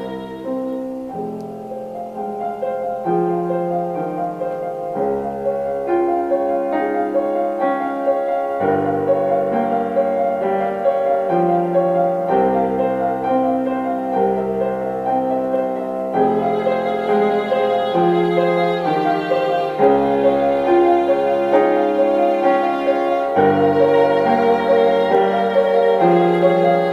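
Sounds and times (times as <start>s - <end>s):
instrumental piano music: 0.0s - 26.9s.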